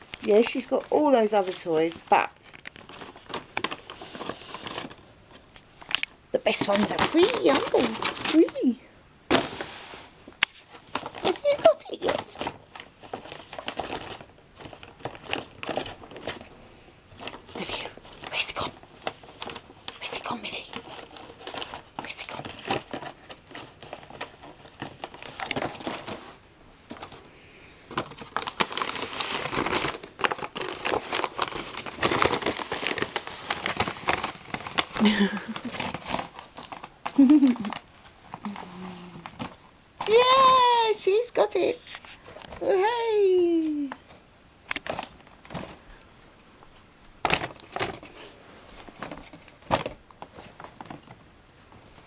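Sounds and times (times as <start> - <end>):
crisp packet crinkling: 0.0 - 9.4, 10.4 - 27.3, 27.9 - 44.0, 44.7 - 46.0, 47.2 - 51.2
paper bag crumpling and rustling: 0.0 - 27.3, 27.9 - 44.0, 44.7 - 46.0, 47.2 - 52.0.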